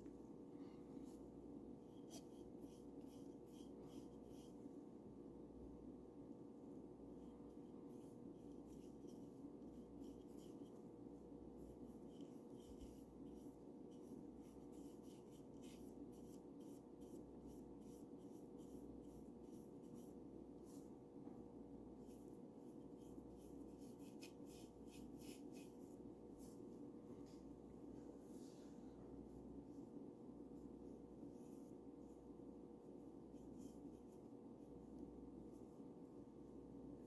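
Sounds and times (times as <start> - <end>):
paintbrush strokes: 0.0 - 4.9, 6.8 - 36.6
steady low hum: 0.0 - 37.0.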